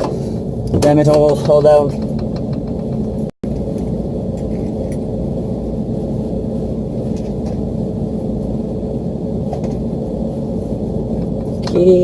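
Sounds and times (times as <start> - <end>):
hvac equipment humming: 0.0 - 12.0.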